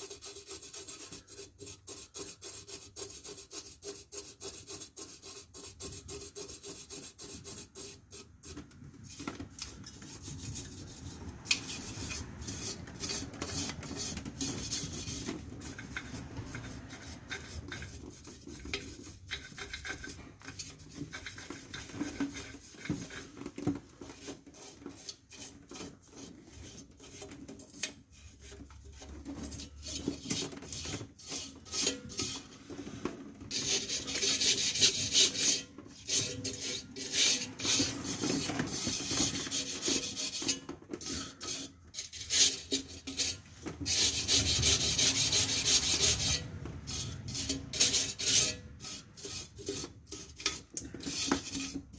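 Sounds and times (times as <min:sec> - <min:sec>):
wire brush scraping metal: 0:00.0 - 0:51.9.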